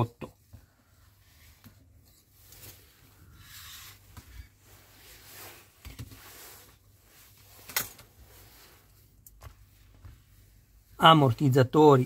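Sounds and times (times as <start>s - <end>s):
faint rubbing and handling noises: 0.3s - 12.0s.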